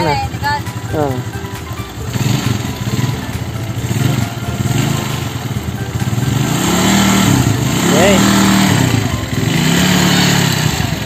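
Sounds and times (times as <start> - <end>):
scooter engine revving: 0.0 - 11.0.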